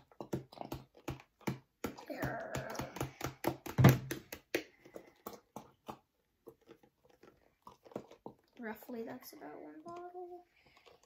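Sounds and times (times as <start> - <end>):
glue bottles spluttering and popping: 0.0 - 11.0.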